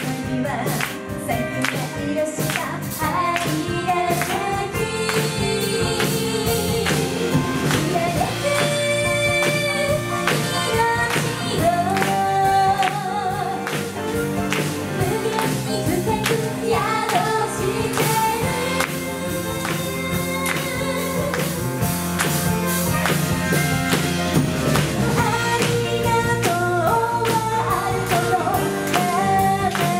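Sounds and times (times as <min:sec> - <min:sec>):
women singing: 0:00.0 - 0:21.9, 0:25.1 - 0:29.9
live pop band music: 0:00.0 - 0:29.9.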